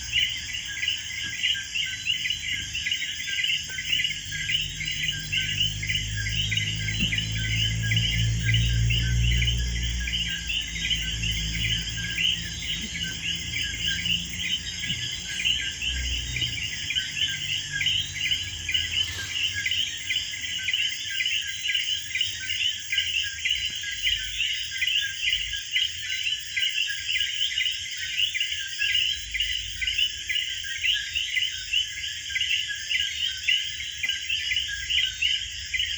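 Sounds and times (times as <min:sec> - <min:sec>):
insects chirping: 0:00.0 - 0:35.9.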